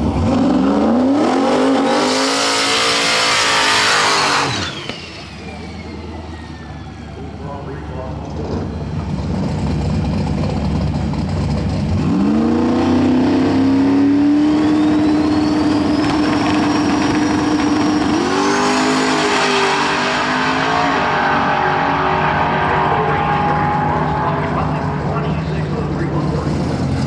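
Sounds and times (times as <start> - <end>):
drag race car engine roaring: 0.0 - 27.0
high engine whine: 0.0 - 27.0.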